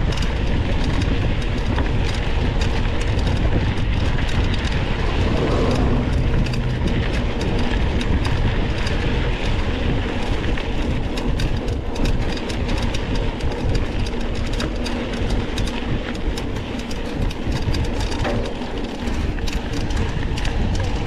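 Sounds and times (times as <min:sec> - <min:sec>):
bike clicks and rattles: 0:00.0 - 0:21.0
tyres and wind rumbling: 0:00.0 - 0:21.0.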